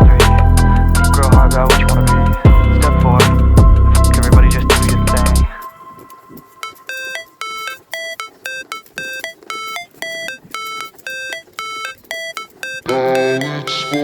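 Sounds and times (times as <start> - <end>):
electronic melody of repeated notes: 0.0 - 14.0.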